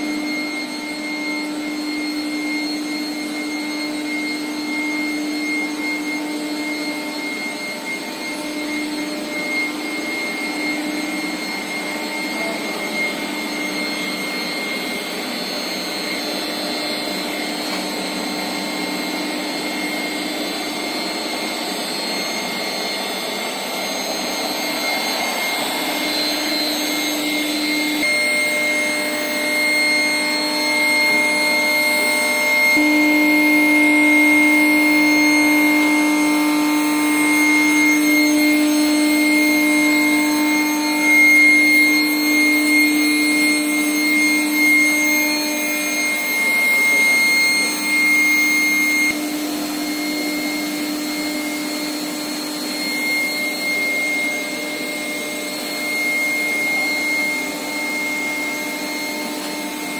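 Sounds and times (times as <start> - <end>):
high-pitched machine whine: 0.0 - 59.9
machinery noise: 0.1 - 59.9.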